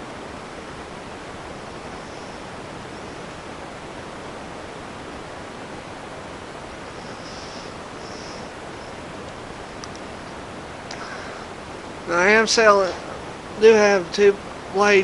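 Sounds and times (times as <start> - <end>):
ceiling fan air rush: 0.0 - 15.0.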